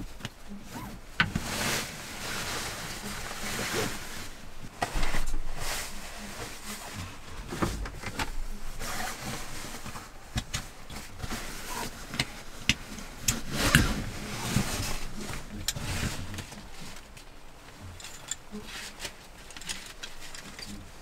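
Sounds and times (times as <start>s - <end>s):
nylon fabric rustling: 0.0s - 21.0s.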